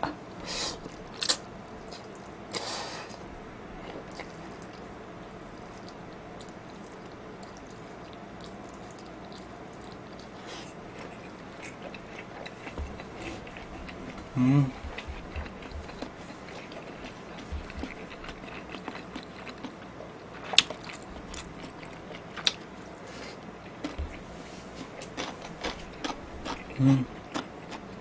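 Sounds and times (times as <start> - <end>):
chewing and wet mouth noises: 0.8 - 28.0.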